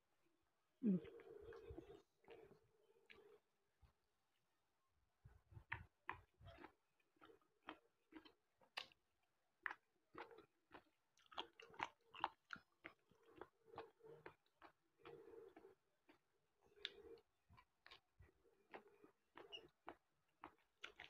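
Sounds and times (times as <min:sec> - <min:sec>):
person chewing food: 0:00.9 - 0:03.5, 0:05.4 - 0:21.0.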